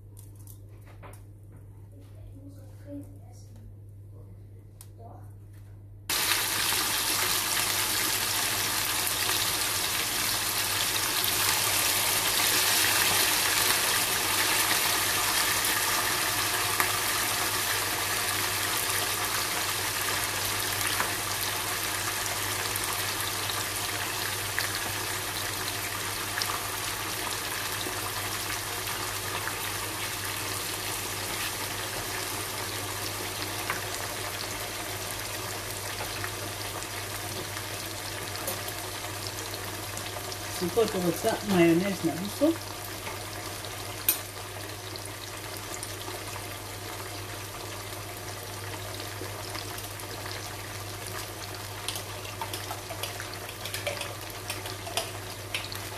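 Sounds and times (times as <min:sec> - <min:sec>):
meat sizzling in a frying pan: 0:06.1 - 0:55.9.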